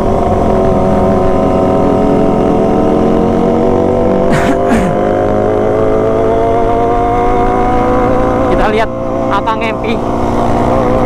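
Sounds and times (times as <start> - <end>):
motorcycle engine revving high: 0.0 - 11.0.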